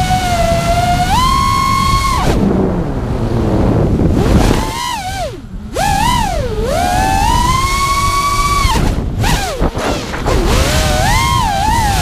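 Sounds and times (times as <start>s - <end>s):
drone motors whining: 0.0s - 12.0s
wind buffeting microphone: 0.0s - 12.0s.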